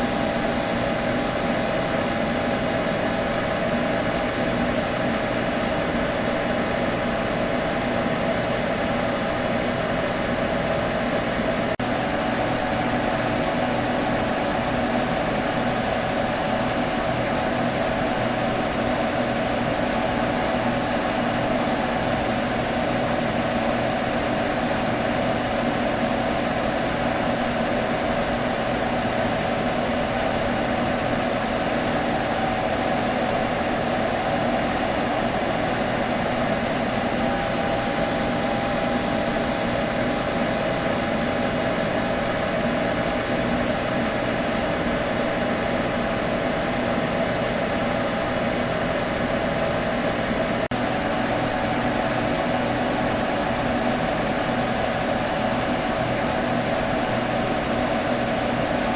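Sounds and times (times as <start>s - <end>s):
computer fan whirring: 0.0s - 58.9s.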